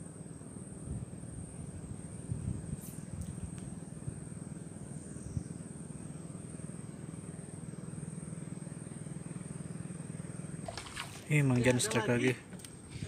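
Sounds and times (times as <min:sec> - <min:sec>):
faint high whine: 0:00.0 - 0:13.0
low engine drone: 0:00.0 - 0:13.0.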